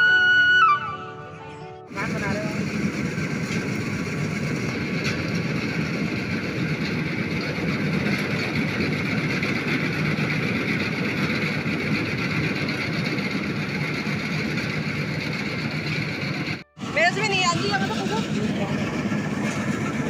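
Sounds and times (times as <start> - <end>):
engine drone: 0.0 - 20.0
machinery hum: 0.0 - 20.0.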